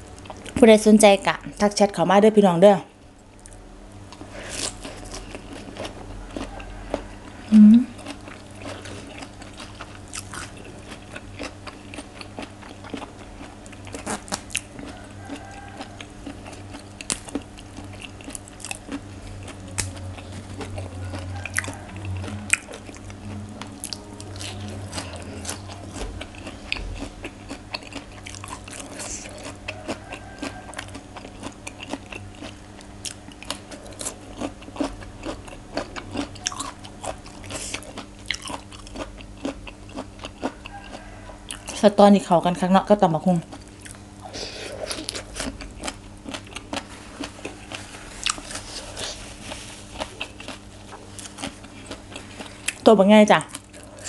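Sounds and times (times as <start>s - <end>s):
chewing crunchy food: 0.0s - 0.6s, 3.1s - 54.0s.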